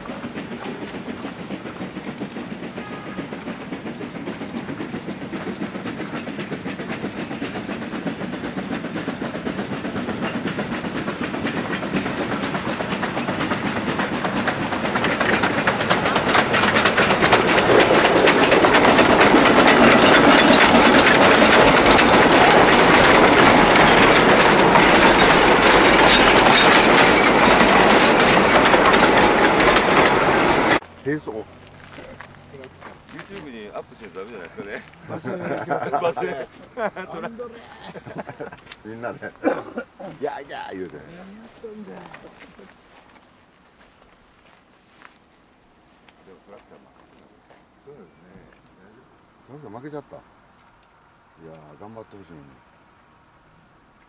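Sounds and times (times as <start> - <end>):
wagons clattering over rails: 0.0 - 43.6, 46.2 - 50.3, 51.4 - 52.6
steam locomotive passing: 0.0 - 54.0.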